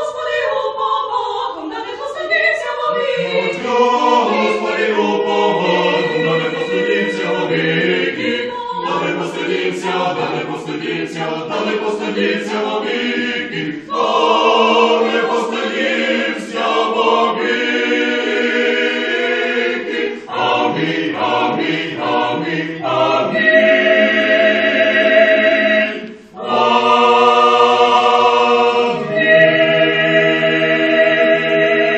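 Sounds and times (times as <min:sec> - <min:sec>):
mixed choir chanting unaccompanied: 0:00.0 - 0:31.9.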